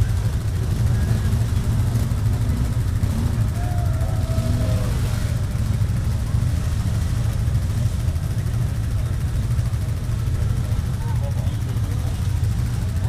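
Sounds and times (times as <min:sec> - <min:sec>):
quad bike engines droning: 0:00.0 - 0:13.0.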